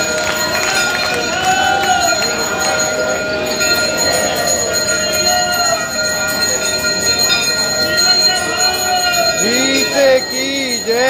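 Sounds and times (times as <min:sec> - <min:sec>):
temple bells ringing: 0:00.0 - 0:11.0.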